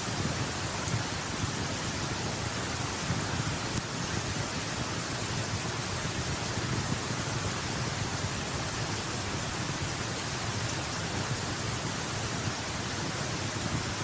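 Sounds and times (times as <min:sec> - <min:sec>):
campfire burning: 0:00.1 - 0:14.0.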